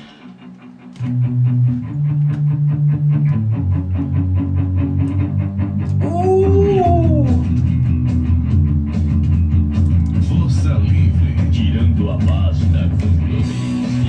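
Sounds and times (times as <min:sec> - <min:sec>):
rock song with guitar and bass: 0:00.0 - 0:14.0.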